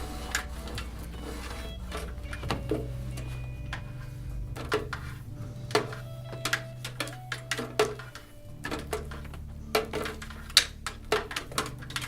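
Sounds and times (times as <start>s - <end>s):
low hum: 0.0s - 12.0s
wire handled clicks and knocks: 1.9s - 12.0s.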